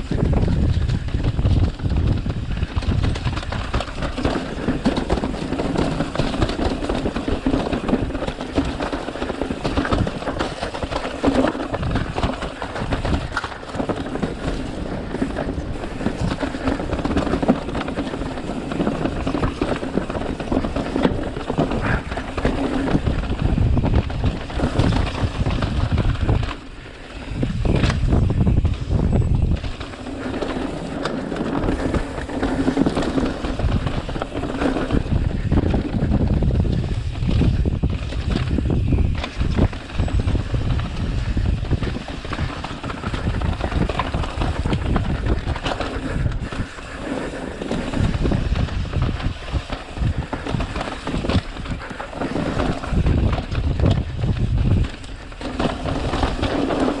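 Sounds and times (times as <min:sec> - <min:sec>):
bike rattling over rough ground: 0:00.0 - 0:57.0
bike tyre noise on dirt: 0:00.0 - 0:57.0
wind buffeting microphone: 0:00.0 - 0:57.0.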